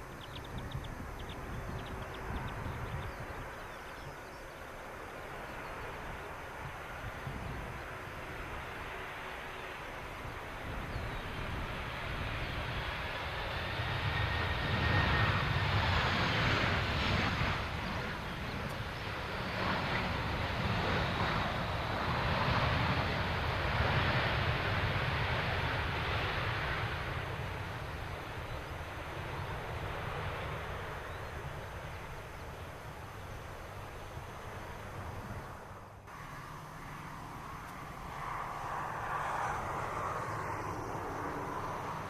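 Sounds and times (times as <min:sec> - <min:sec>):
high engine whine: 0:00.0 - 0:42.0
jet engines roaring: 0:00.0 - 0:42.0.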